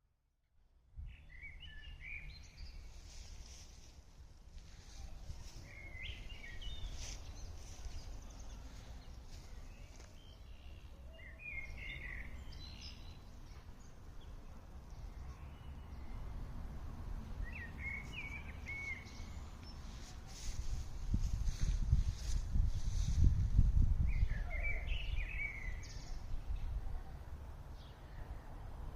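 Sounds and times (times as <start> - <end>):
songbirds chirping: 0.8 - 28.9.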